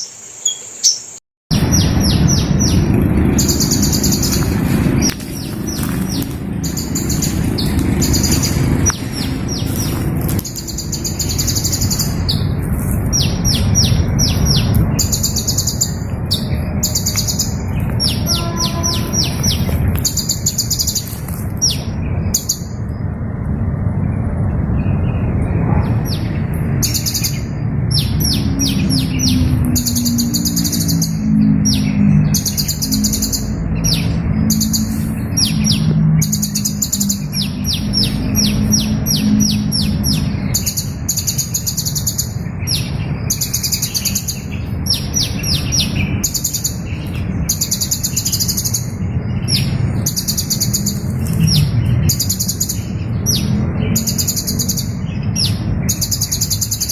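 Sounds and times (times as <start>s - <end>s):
hummingbirds chirping: 0.0s - 56.9s
steady low rumble: 1.5s - 56.9s.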